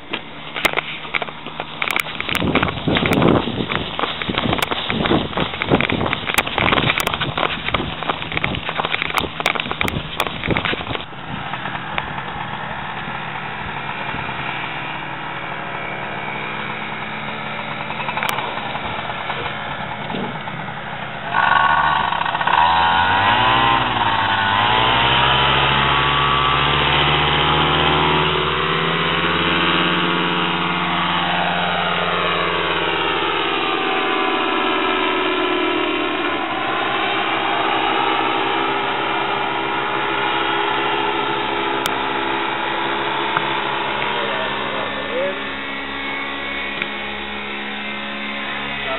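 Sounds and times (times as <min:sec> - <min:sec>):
paramotor engine revving: 0:00.6 - 0:48.9.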